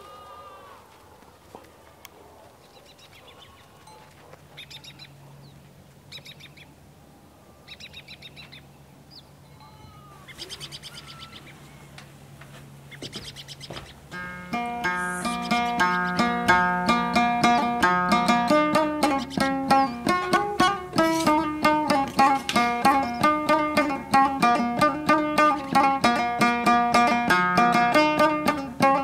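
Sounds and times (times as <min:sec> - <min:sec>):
birds chattering: 0:00.0 - 0:29.0
faint low hum: 0:00.0 - 0:29.0.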